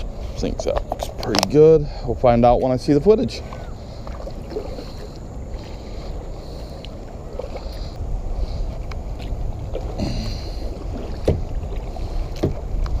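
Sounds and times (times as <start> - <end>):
steady low rumble: 0.0 - 13.0
water splashing: 0.0 - 13.0
paddle strokes: 2.4 - 13.0.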